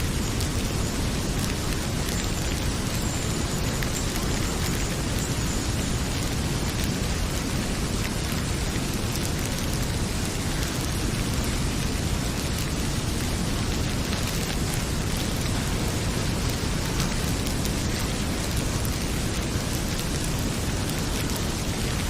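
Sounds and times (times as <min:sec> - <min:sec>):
heavy rain pouring: 0:00.0 - 0:22.0
wood fire crackling: 0:00.0 - 0:22.0.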